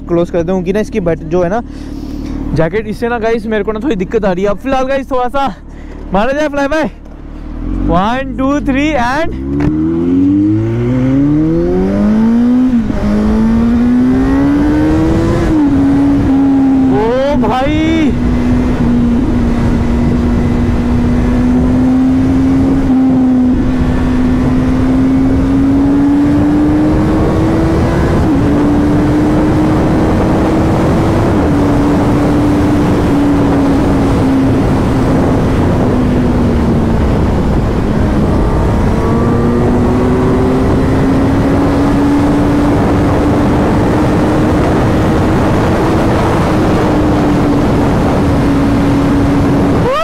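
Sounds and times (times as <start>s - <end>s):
motorcycle engine at high speed: 0.0s - 50.0s
wind rush over microphone: 8.8s - 50.0s.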